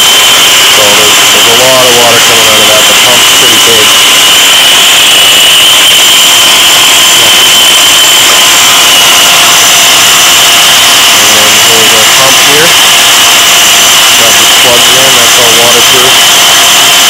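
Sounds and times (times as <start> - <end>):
wet saw running: 0.0 - 9.2, 10.1 - 16.8.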